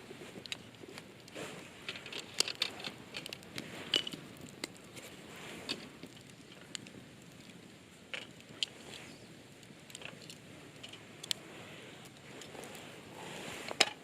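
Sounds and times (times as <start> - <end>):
faint rustle: 0.0 - 14.0
small clicks and crackles: 0.0 - 14.0.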